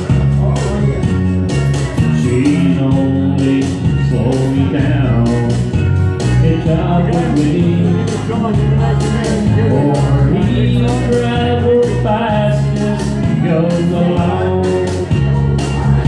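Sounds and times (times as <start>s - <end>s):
country backing track: 0.0s - 16.0s
man singing into microphone: 2.0s - 15.7s.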